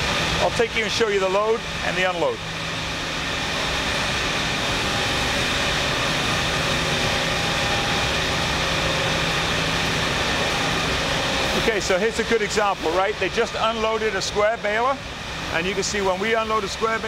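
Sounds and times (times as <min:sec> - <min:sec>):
constant machine tones: 0:00.0 - 0:17.0
machinery and ventilation hum: 0:00.0 - 0:17.0.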